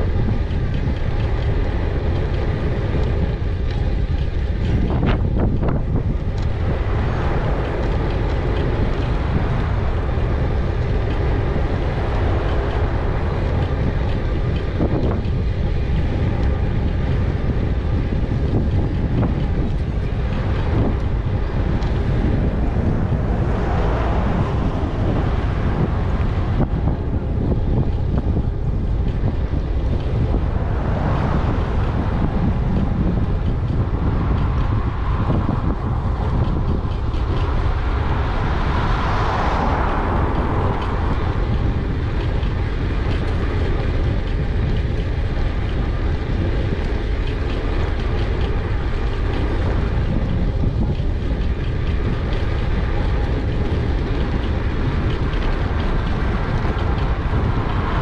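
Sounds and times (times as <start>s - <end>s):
wind rumbling over microphone: 0.0s - 58.0s.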